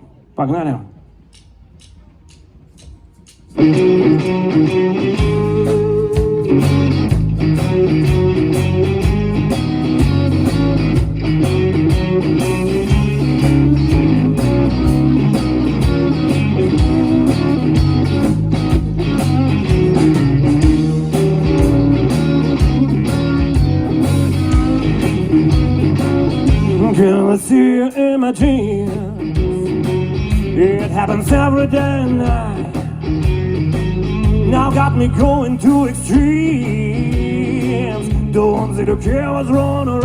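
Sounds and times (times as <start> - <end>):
drums with steady beat: 1.3 - 40.0
bass guitar: 1.8 - 40.0
electric guitar: 2.8 - 40.0.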